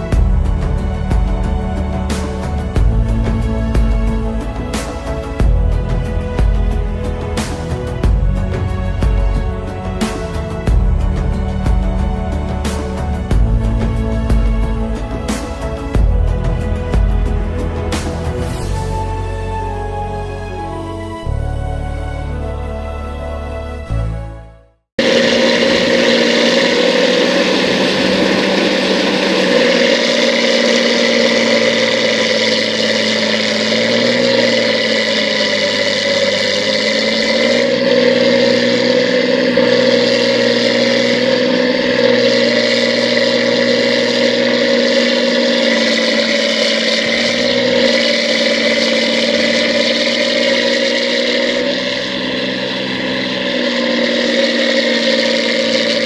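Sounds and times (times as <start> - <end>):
combine harvester droning: 0.0 - 24.0, 25.0 - 56.0.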